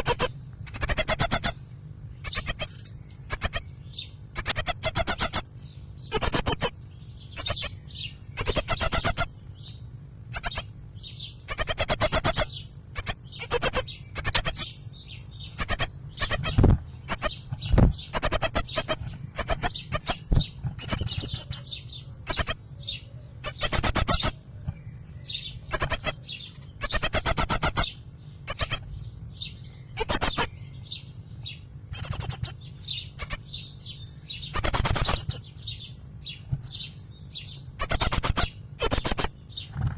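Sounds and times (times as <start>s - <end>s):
nestlings chirping harshly: 0.0s - 1.6s, 2.2s - 24.4s, 25.3s - 39.8s.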